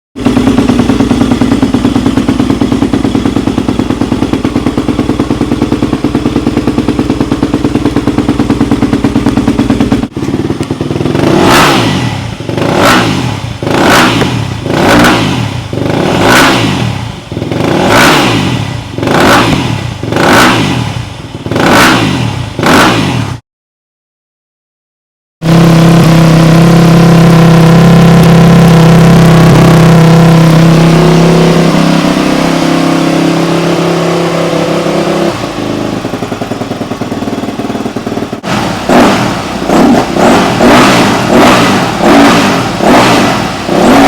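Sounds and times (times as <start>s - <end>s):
motorcycle engine idling: 0.2s - 22.7s, 25.4s - 44.0s
motorcycle engine revving: 0.2s - 23.4s, 25.4s - 44.0s.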